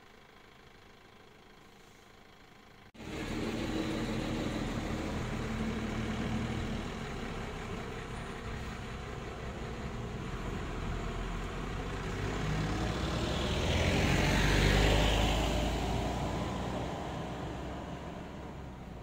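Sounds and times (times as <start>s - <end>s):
vehicle driving past: 3.0s - 19.0s.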